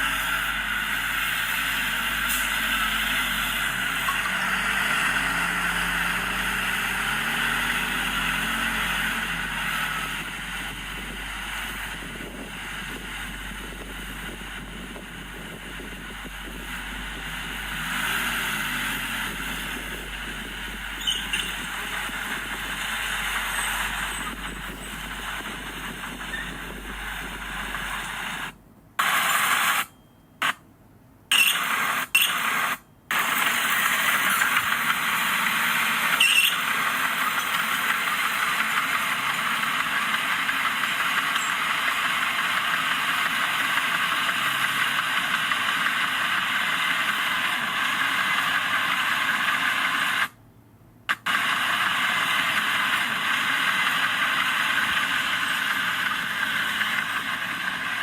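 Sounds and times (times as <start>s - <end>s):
heavy machinery engine drone: 0.0s - 58.0s.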